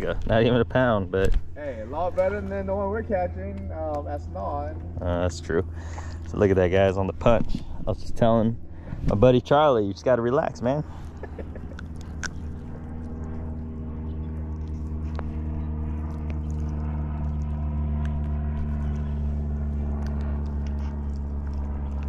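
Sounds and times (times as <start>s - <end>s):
boat engine droning: 1.5s - 22.0s.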